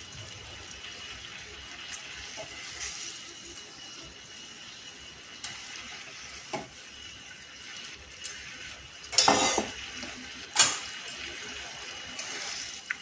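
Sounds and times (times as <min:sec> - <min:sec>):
curry sizzling: 0:00.0 - 0:13.0.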